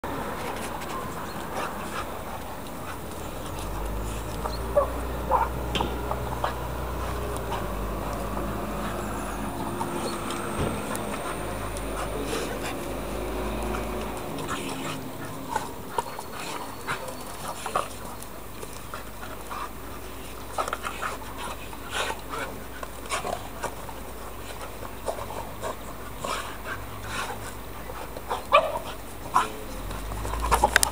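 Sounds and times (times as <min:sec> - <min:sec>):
dogs play-fighting: 0:00.0 - 0:30.9.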